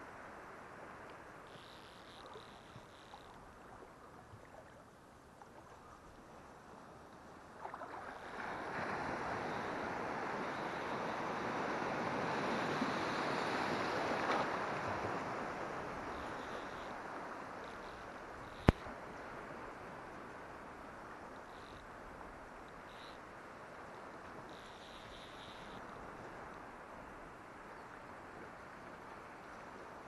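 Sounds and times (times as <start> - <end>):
water noise: 0.0 - 30.0
wind: 0.0 - 30.0.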